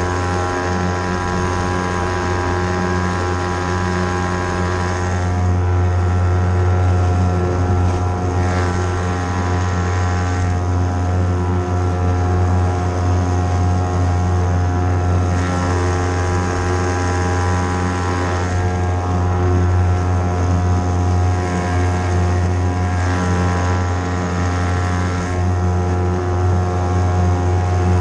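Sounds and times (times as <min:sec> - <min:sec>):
outboard motor droning: 0:00.0 - 0:28.0.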